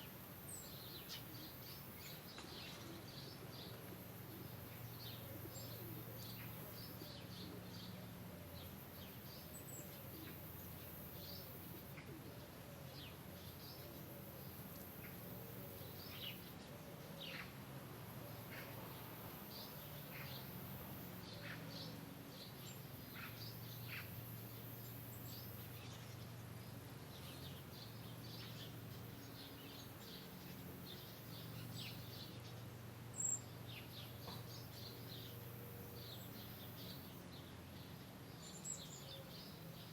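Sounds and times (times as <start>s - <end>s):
faint birds chirping: 0.0s - 39.9s.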